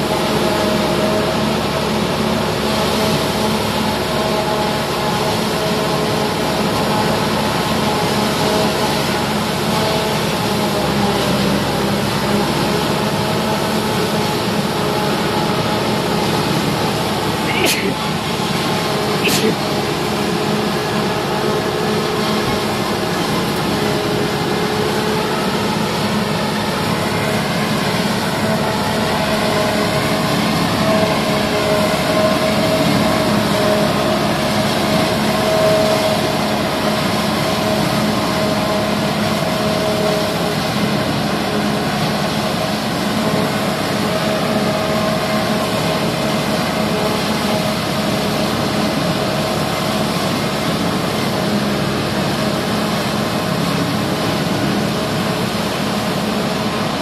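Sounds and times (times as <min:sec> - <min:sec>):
forage chopper cutting grass: 0:00.0 - 0:57.0
tractor engine under load: 0:00.0 - 0:57.0.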